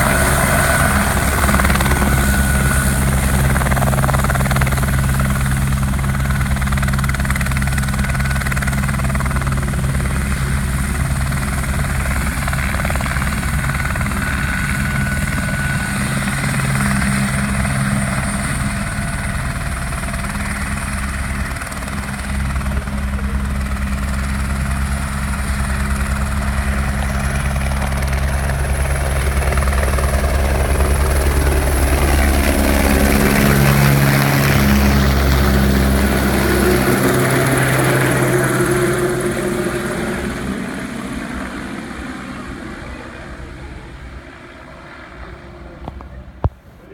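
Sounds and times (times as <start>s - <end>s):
helicopter rotor and turbine drone: 0.0s - 46.9s.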